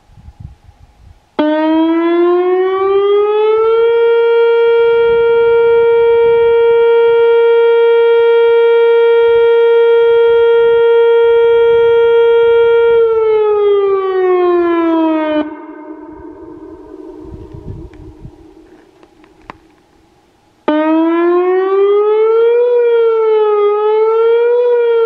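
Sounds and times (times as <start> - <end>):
electronic tornado siren: 0.0 - 25.0.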